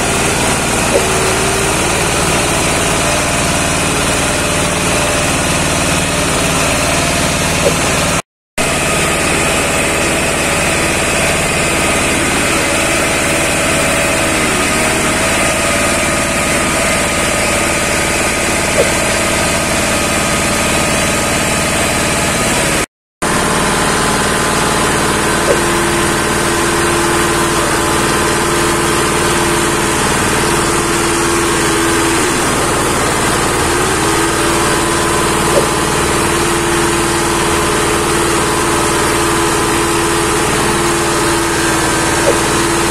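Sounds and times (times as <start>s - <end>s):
diesel engine running steadily: 0.0s - 42.9s
wood grinding mill: 0.0s - 42.9s.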